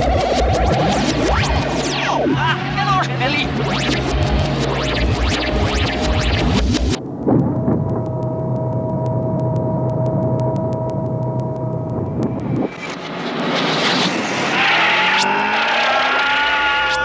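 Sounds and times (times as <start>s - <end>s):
electronic engine-like hum with whine: 0.0s - 17.0s.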